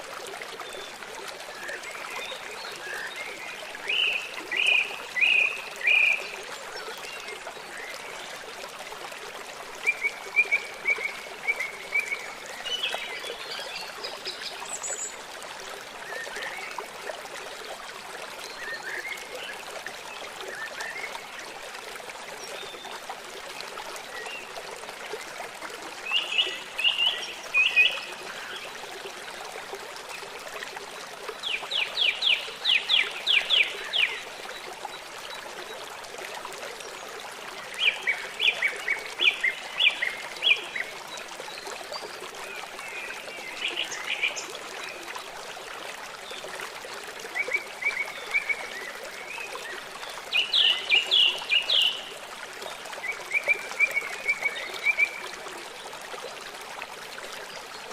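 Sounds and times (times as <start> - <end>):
river water running: 0.0 - 57.9.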